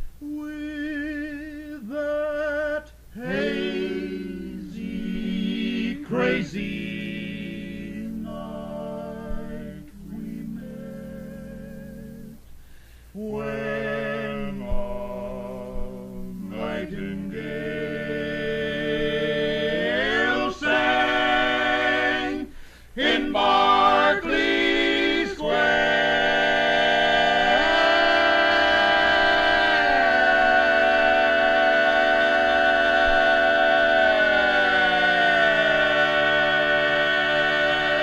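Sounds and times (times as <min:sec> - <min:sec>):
male quartet singing a cappella: 0:00.0 - 0:38.0.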